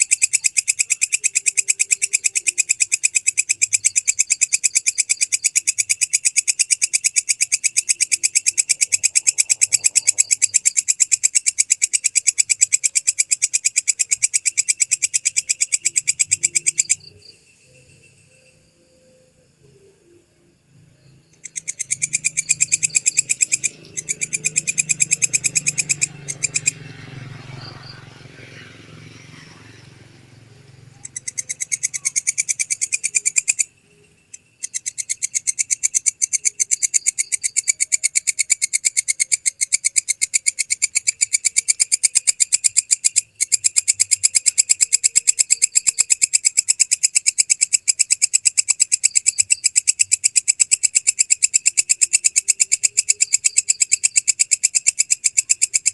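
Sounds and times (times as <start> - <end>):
katydid ticking trill: 0.0 - 19.4, 21.0 - 28.0, 29.1 - 55.9.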